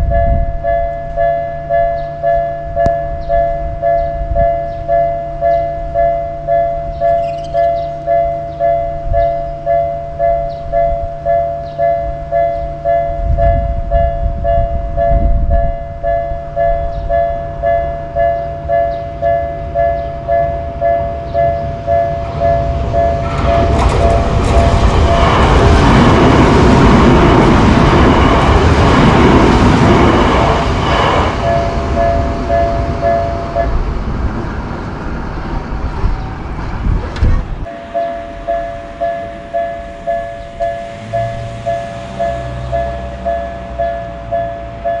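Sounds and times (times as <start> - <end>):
level-crossing warning bell: 0.0 - 34.0, 37.6 - 45.0
train wheels rushing on rails: 0.0 - 45.0.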